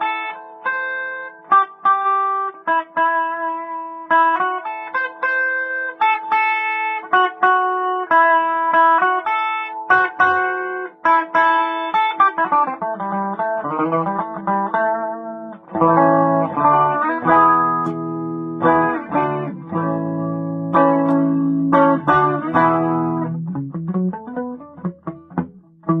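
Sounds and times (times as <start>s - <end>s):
clean electric guitar melody: 0.0s - 26.0s.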